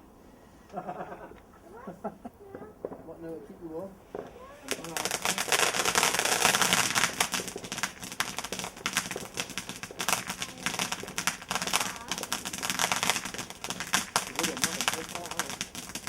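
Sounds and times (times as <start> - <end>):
fireworks crackling: 0.0 - 16.0.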